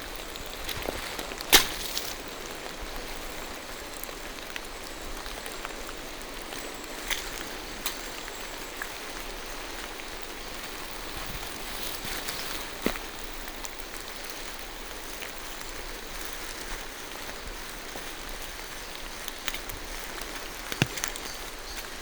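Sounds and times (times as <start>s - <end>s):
rain falling through trees: 0.0s - 22.0s
sharp taps of raindrops: 0.1s - 22.0s.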